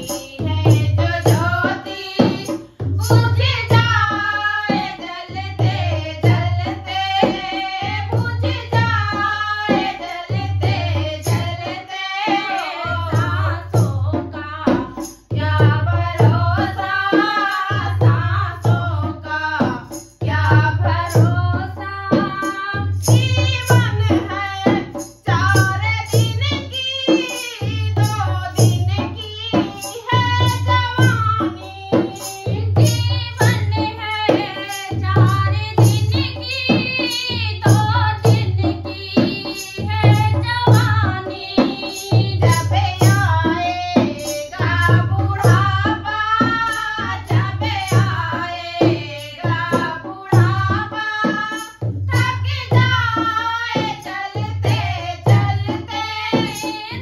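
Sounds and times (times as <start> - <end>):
women singing: 0.0 - 57.0.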